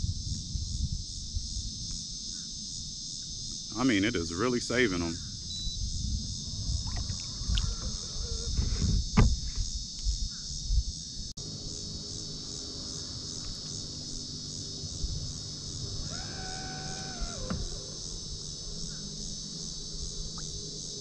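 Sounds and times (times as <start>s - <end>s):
insects chorus high drone: 0.0s - 21.0s.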